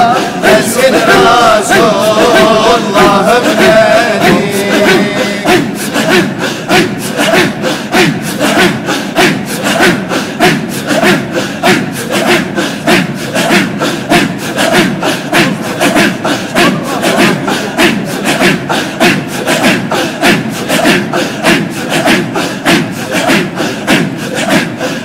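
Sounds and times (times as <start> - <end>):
men chanting in unison: 0.0 - 25.0
rhythmic breathy exhalations: 0.0 - 25.0.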